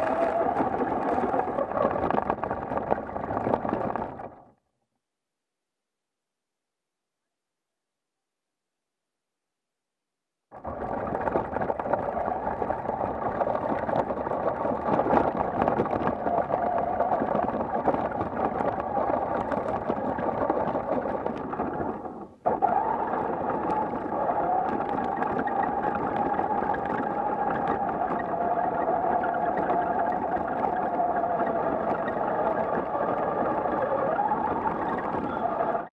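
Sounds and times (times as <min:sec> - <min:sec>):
tyre and chassis noise: 0:00.0 - 0:04.4, 0:10.6 - 0:35.9.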